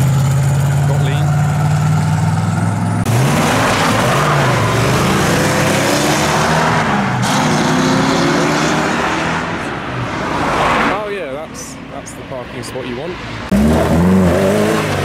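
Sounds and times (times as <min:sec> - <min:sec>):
car accelerating and changing gear: 0:00.0 - 0:11.2, 0:13.5 - 0:15.0
loud road noise: 0:00.0 - 0:15.0.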